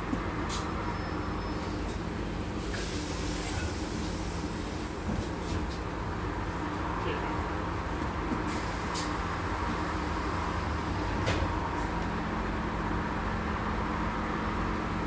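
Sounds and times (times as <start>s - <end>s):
bus engine humming: 0.0s - 15.0s.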